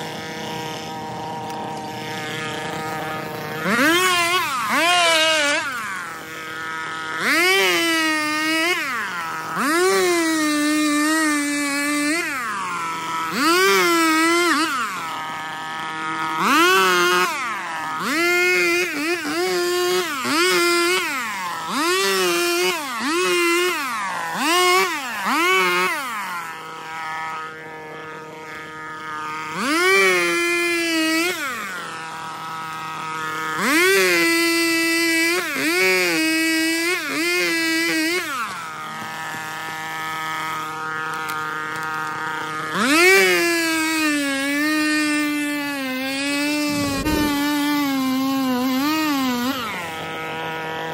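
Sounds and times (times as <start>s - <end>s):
chainsaw revving and idling: 0.0s - 50.9s.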